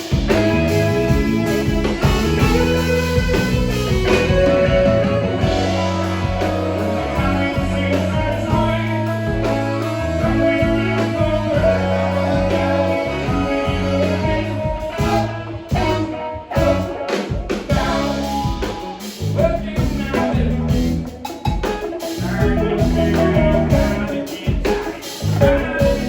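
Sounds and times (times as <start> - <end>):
bass notes: 0.0 - 24.6, 25.2 - 26.0
drums: 0.0 - 26.0
electric guitar: 0.0 - 26.0
person singing: 4.0 - 21.1, 22.0 - 26.0.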